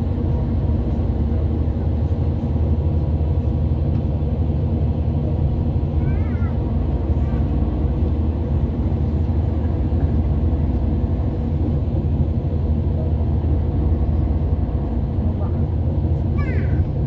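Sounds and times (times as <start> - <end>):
road and engine rumble in cabin: 0.0 - 17.0.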